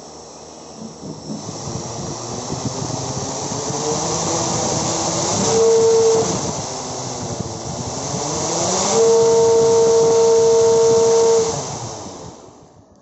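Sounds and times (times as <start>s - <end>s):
electric motor whine: 0.0s - 13.0s
propeller rush of air: 0.8s - 12.7s.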